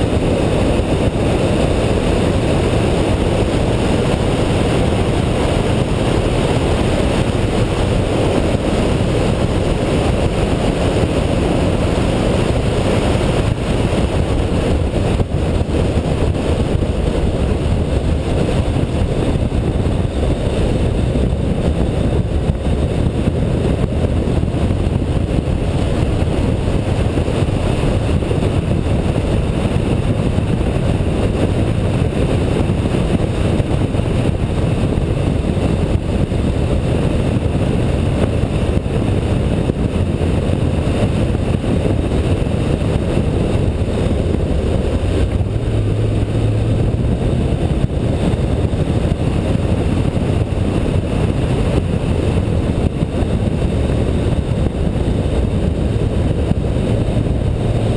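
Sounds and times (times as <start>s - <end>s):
car engine at speed: 0.0s - 57.9s
wind noise: 0.0s - 57.9s.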